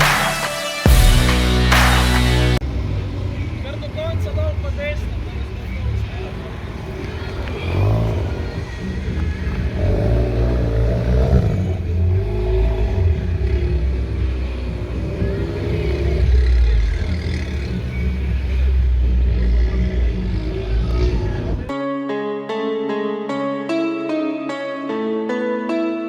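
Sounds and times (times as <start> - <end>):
car engine revving: 0.0 - 21.7.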